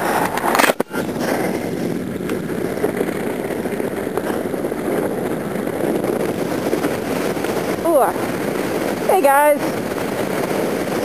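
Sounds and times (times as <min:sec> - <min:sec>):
road noise from moving car: 0:00.0 - 0:11.0
wind rushing from car window: 0:00.0 - 0:11.0.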